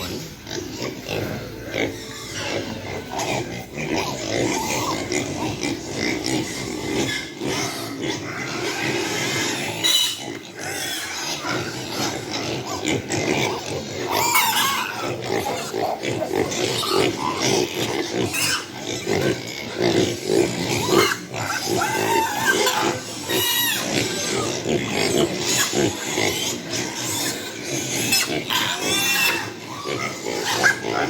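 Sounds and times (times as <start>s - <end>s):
piglets grunting: 0.0s - 31.0s.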